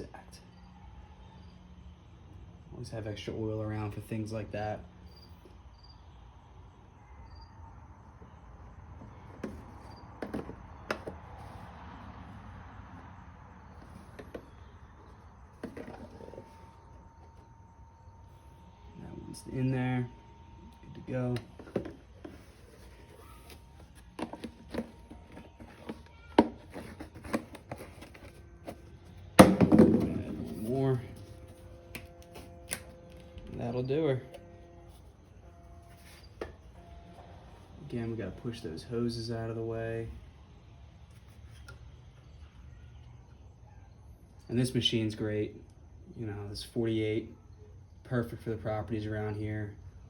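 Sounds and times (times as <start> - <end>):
crickets chirping: 0.0 - 3.4, 4.1 - 50.0.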